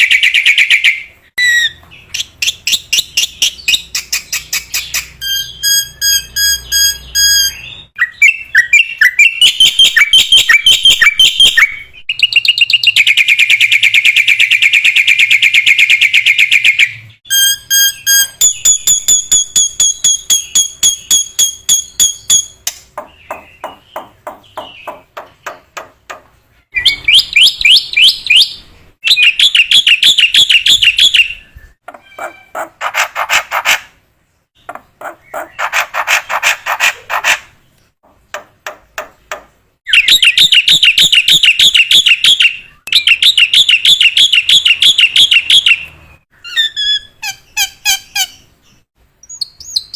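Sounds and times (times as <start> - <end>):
bird singing trills and whistles: 0.0 - 25.7, 26.7 - 32.5, 39.9 - 49.9.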